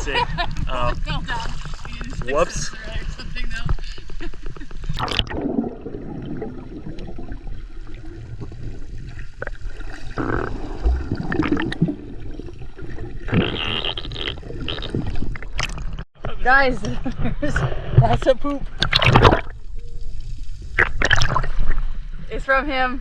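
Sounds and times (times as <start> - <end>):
water sloshing and gurgling: 0.0 - 16.1, 17.2 - 22.6.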